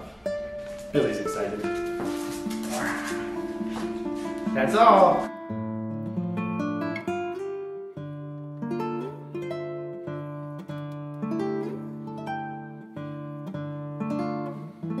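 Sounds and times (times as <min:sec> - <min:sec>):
acoustic guitar plucked chords: 0:00.0 - 0:15.0.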